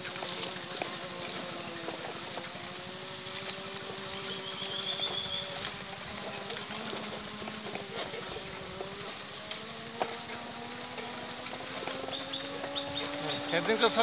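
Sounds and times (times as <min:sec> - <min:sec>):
small vehicle motor running: 0:00.0 - 0:14.0.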